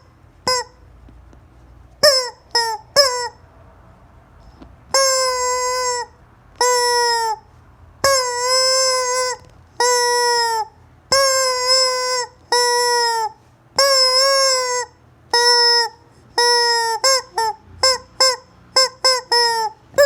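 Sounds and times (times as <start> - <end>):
rubber chicken toy squawking: 0.0 - 0.8, 2.0 - 3.4, 4.9 - 20.0.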